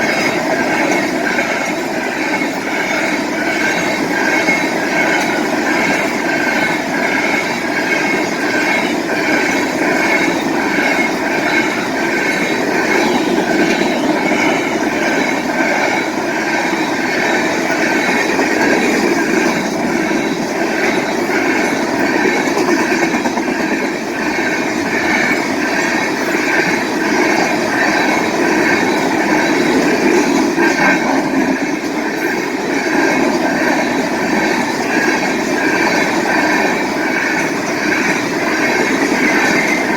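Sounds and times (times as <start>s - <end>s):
crossing bell ringing: 0.0s - 39.9s
train wheels clattering on rails: 0.0s - 39.9s.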